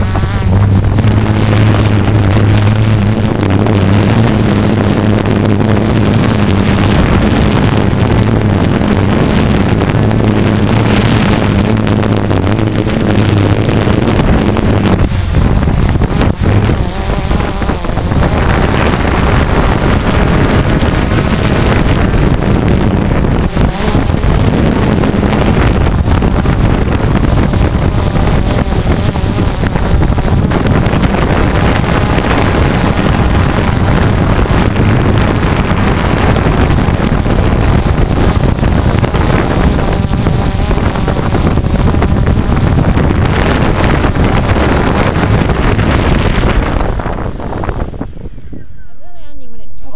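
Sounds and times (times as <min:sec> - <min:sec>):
drone motors and propellers: 0:00.0 - 0:48.4
wind buffeting microphone: 0:00.0 - 0:49.4.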